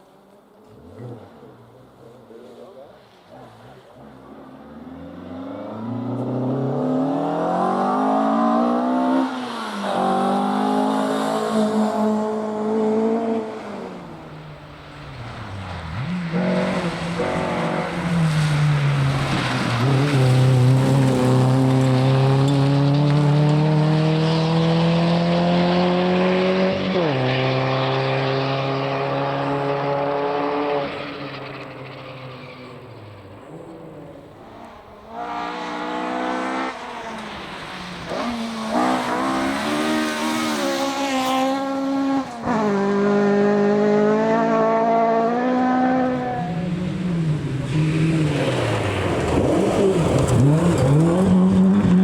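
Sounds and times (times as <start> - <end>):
rally car engine revving: 0.6 - 52.0.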